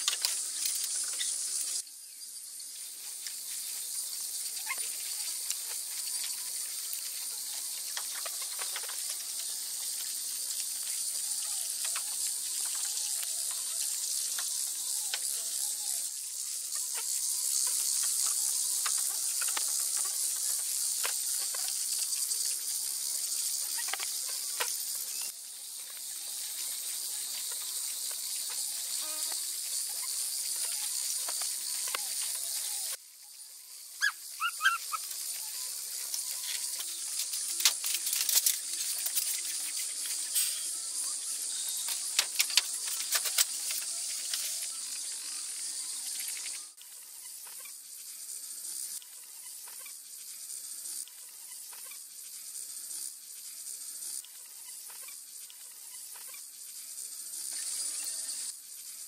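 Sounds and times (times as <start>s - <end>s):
night insects chirring: 0.0s - 59.0s.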